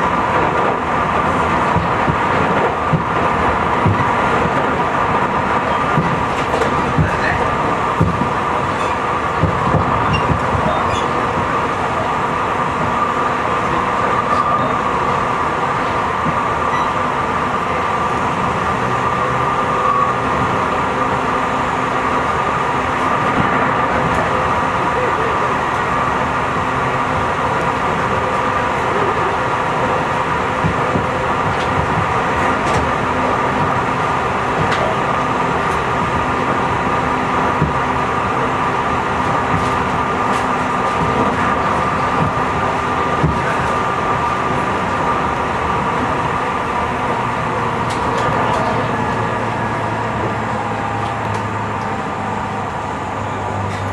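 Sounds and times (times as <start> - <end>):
train motor hum: 0.0 - 53.9
wheels rumbling on rail: 0.0 - 53.9.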